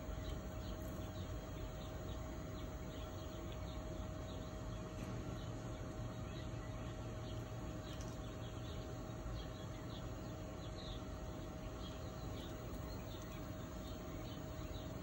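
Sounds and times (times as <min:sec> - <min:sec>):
constant hum: 0:00.0 - 0:15.0
small birds chirping: 0:00.0 - 0:15.0.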